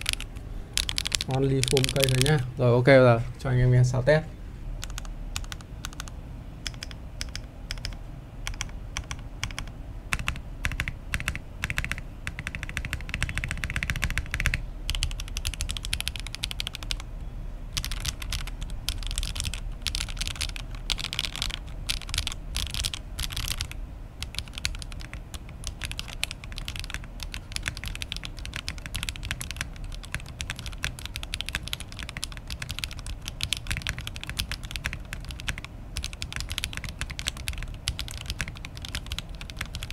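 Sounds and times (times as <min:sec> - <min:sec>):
mechanical keyboard typing: 0:00.0 - 0:02.4, 0:04.8 - 0:17.1, 0:17.7 - 0:39.9.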